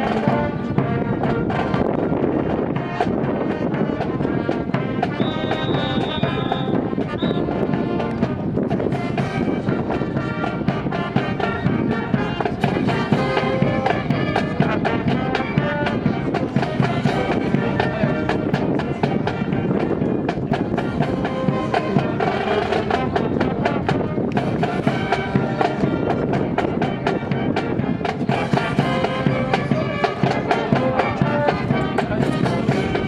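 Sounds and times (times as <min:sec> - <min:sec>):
music playing: 0:00.0 - 0:33.0.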